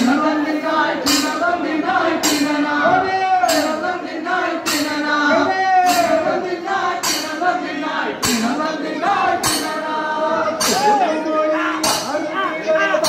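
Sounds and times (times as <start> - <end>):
jingling percussion strikes: 0.0 - 13.0.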